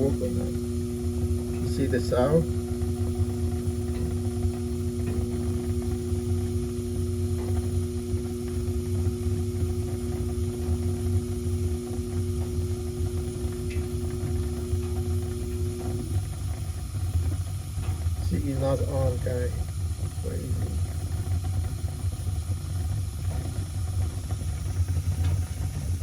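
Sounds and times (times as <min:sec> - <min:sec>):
electric hum: 0:00.0 - 0:26.0
gas furnace burner rumble: 0:00.0 - 0:26.0.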